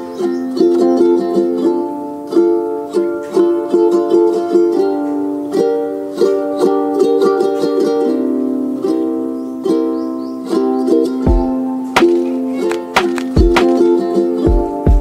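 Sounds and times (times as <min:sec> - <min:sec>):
plucked-string tune: 0:00.0 - 0:15.0.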